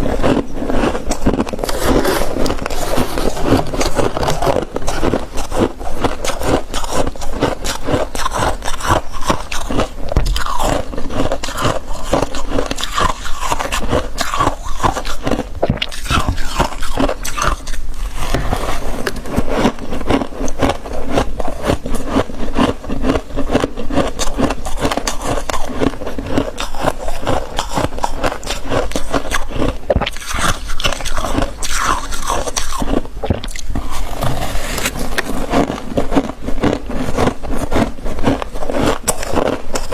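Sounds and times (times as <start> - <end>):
freezer frost crunching and scraping: 0.0 - 39.9.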